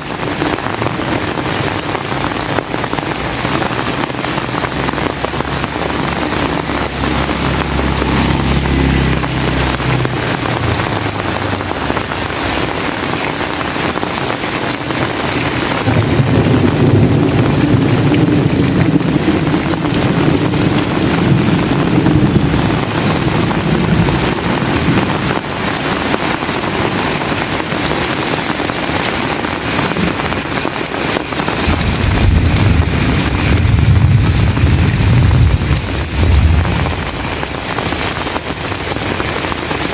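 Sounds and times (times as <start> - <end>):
heavy rain hiss: 0.0 - 39.9
low rumbles: 0.3 - 39.9.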